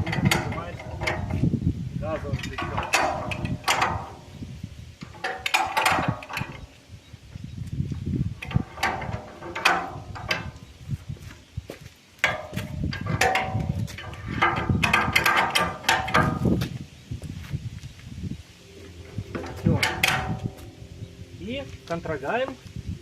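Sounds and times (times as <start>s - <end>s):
metal clanks and scraping: 0.0s - 6.9s, 8.2s - 11.3s, 12.2s - 16.9s, 18.6s - 23.0s.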